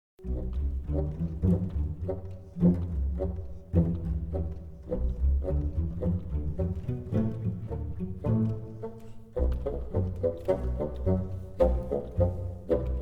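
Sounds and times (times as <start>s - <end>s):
bowed and plucked strings music: 0.2s - 13.0s.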